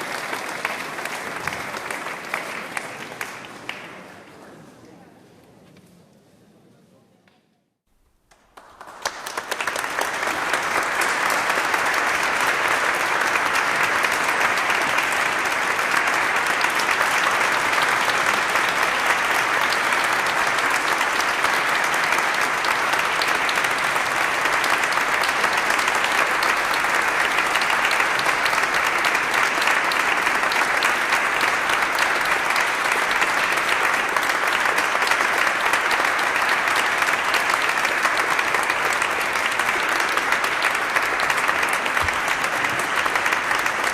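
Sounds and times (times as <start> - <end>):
audience applauding: 0.0 - 4.4, 8.2 - 43.9.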